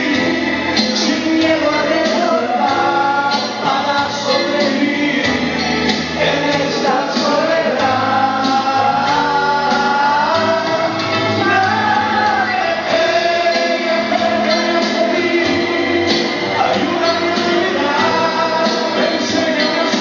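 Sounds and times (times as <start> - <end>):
backing music: 0.0 - 20.0
man singing into microphone: 0.0 - 20.0.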